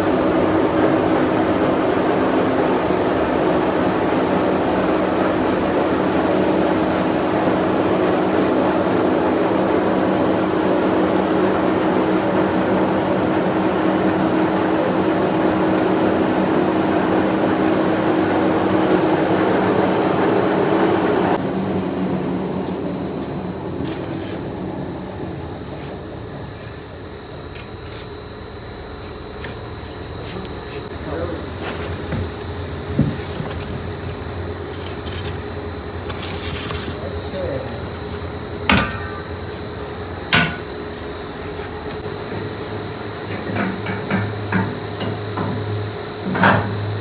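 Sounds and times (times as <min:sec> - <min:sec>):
factory machinery drone: 0:00.0 - 0:47.0
thin high machine whine: 0:00.0 - 0:47.0.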